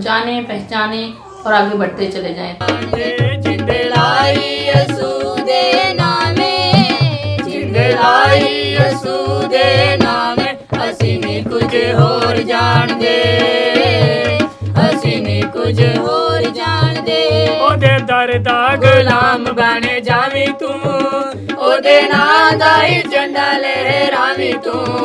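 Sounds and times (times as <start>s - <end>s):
drum beat: 2.6s - 25.0s
people singing together: 2.6s - 25.0s.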